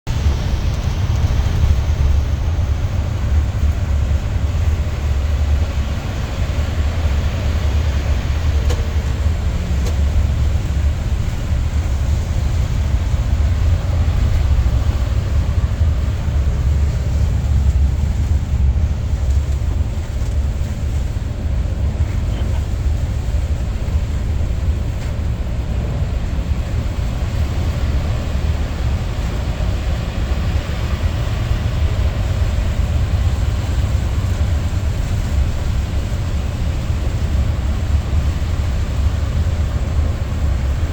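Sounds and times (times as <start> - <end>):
aircraft in flight rumble: 0.0 - 40.9.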